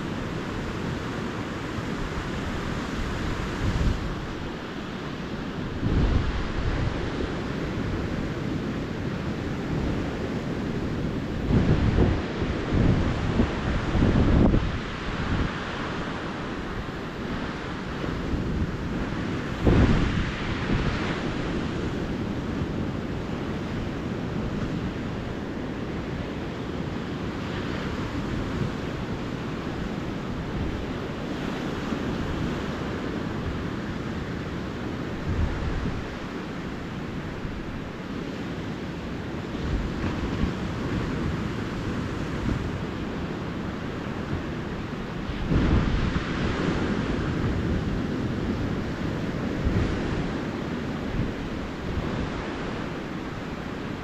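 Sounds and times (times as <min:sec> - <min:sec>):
ocean surf washing onto beach: 0:00.0 - 0:54.0
wind buffeting microphone: 0:00.0 - 0:54.0.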